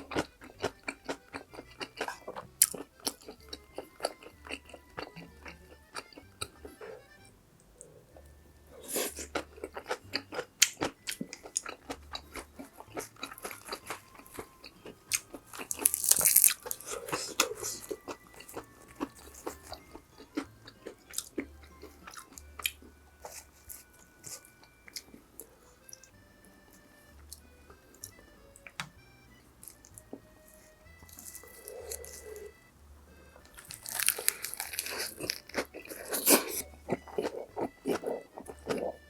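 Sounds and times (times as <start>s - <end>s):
crunchy chewing: 0.0s - 29.0s, 29.6s - 32.6s, 33.2s - 39.0s
person chewing food: 0.0s - 39.0s.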